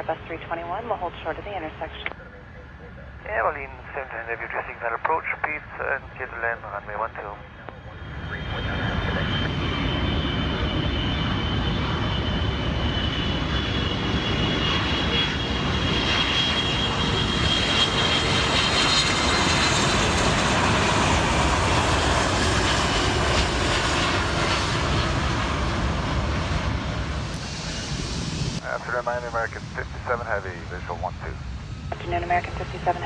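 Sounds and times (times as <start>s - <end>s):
high jet engine whine: 0.0s - 33.0s
jet airliner engines rumbling: 0.0s - 33.0s.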